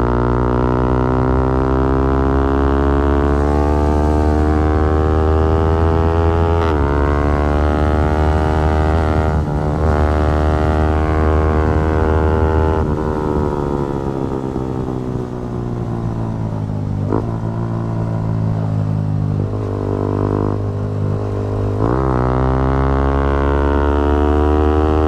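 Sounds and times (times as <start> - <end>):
motorcycle engine pulling hard: 0.0 - 25.0.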